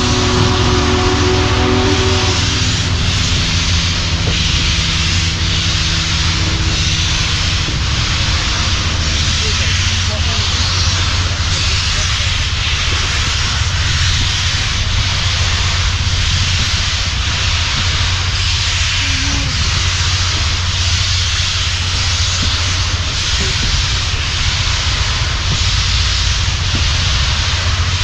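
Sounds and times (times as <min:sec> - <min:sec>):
moving train rumble and hiss: 0:00.0 - 0:28.0.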